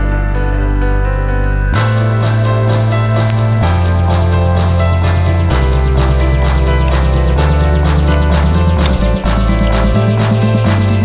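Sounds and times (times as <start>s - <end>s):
music with steady beat: 1.7s - 11.0s.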